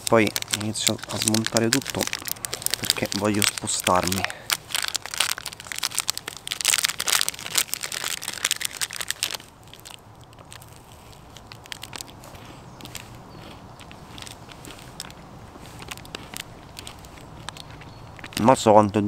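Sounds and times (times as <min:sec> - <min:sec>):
plastic wrapper crinkling and tearing: 0:00.0 - 0:18.6.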